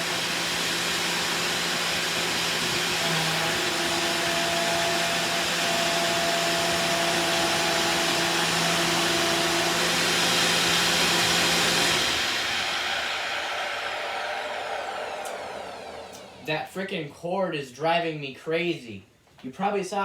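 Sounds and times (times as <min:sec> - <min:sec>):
vacuum motor winding down: 0:00.0 - 0:16.5
vacuum cleaner running: 0:00.0 - 0:16.6.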